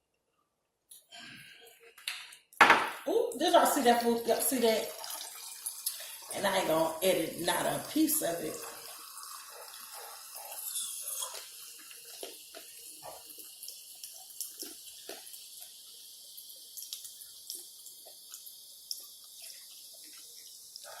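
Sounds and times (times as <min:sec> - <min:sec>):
soda fizzing over ice: 0:03.5 - 0:21.0.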